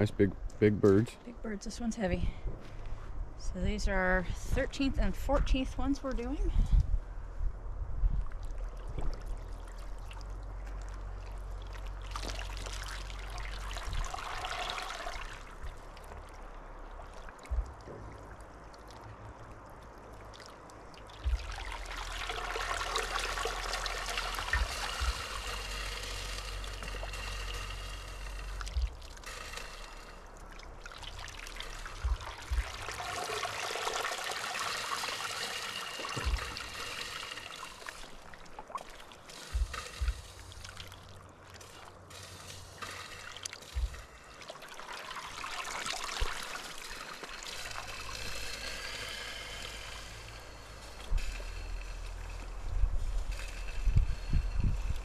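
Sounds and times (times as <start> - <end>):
water sloshing and splashing: 8.1 - 55.0.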